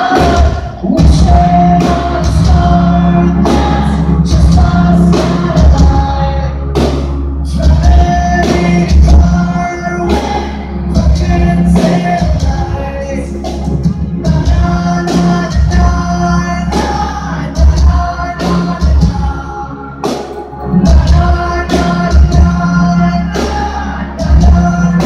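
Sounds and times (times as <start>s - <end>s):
live rock band playing: 0.0s - 25.0s
man singing lead vocals: 0.0s - 25.0s.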